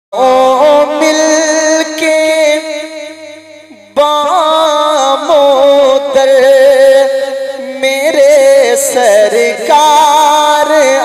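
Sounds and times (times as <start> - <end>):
man singing ornamented phrases: 0.2 - 11.0.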